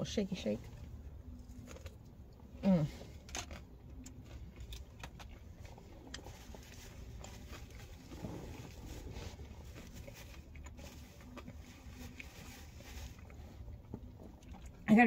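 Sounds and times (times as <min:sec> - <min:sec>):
low steady hum: 0:00.0 - 0:15.0
person chewing food: 0:00.9 - 0:14.9.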